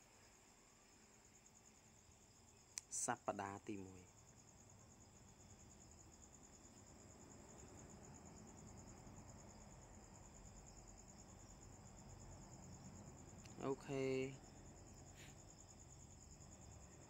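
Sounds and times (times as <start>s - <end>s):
cricket trill: 0.0s - 17.0s
low background noise: 0.0s - 17.0s.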